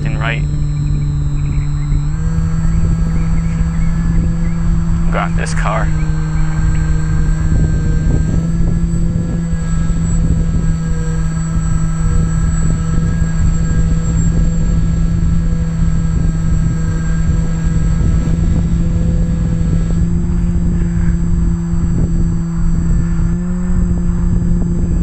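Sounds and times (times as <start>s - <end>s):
electric motor and propeller droning: 0.0s - 25.0s
wind rushing over microphone: 0.0s - 25.0s.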